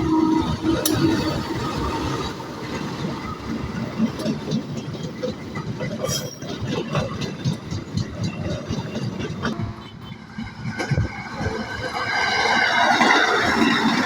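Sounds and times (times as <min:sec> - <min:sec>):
train rumbling on rails: 0:00.0 - 0:14.0
train wheels knocking: 0:00.0 - 0:14.0.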